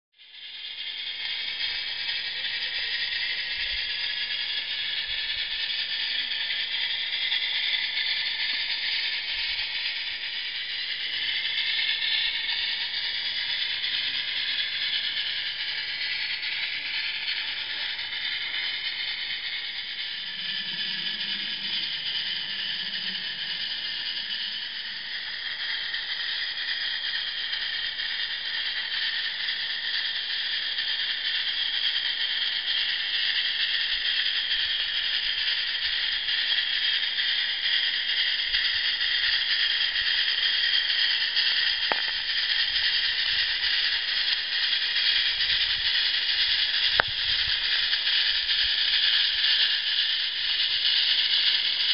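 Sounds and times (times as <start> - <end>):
steam locomotive chuffing: 0.2 - 51.9.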